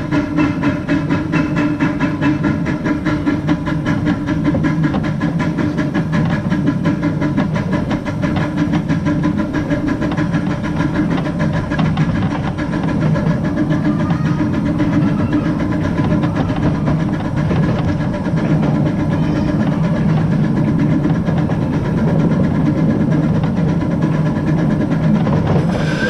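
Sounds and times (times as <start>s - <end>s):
steam hissing: 0.0s - 26.0s
steam locomotive chuffing: 0.0s - 26.0s.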